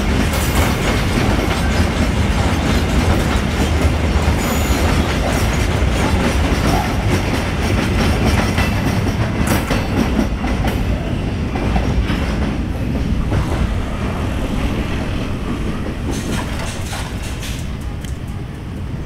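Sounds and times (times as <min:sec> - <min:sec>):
clickety-clack over rail joints: 0:00.0 - 0:14.2, 0:14.9 - 0:19.0
train wheels rumbling on rail: 0:00.0 - 0:19.0.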